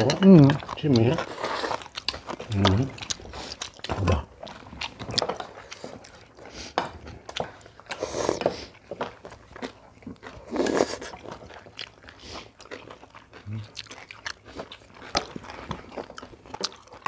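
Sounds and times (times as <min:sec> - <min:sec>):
chewing and crunching: 0:00.0 - 0:17.0.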